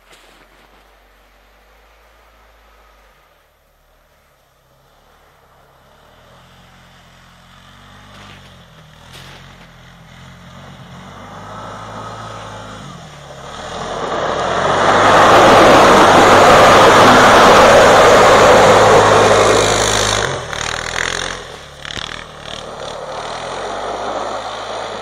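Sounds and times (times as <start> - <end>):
quad bike engine: 0.0 - 25.0.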